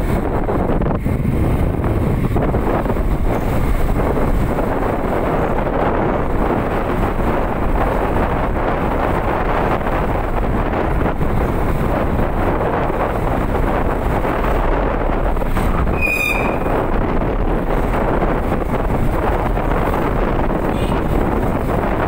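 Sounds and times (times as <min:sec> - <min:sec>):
wind and road noise rumble: 0:00.0 - 0:22.0.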